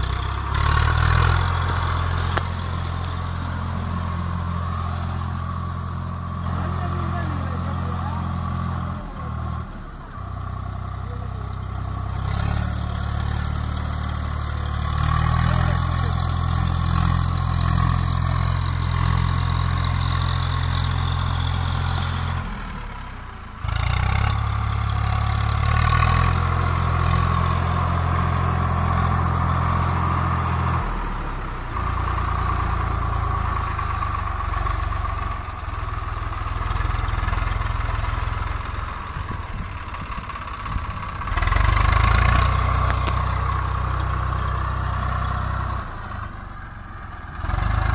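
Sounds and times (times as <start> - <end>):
diesel tractor engine droning: 0.0 - 47.9.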